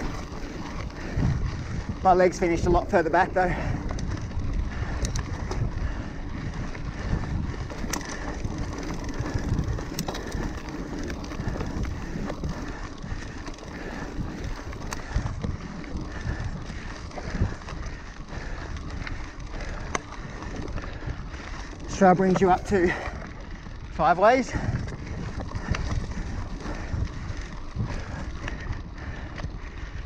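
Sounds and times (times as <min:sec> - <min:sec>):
bike clicking and rattling: 0:00.0 - 0:30.0
bike tyres rumbling on dirt: 0:00.0 - 0:30.0.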